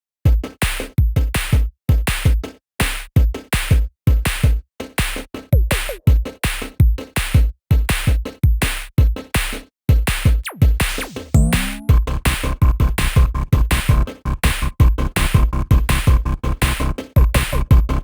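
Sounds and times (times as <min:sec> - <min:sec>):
electronic music with drum-machine beat: 0:00.3 - 0:18.0.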